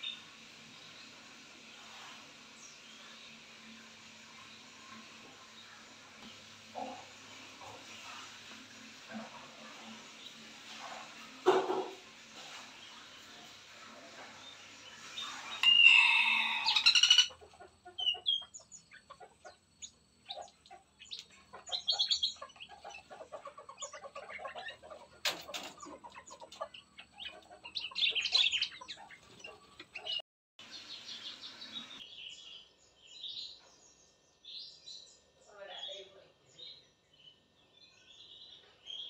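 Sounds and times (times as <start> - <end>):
songbirds chirping and calling: 0.0 - 39.0.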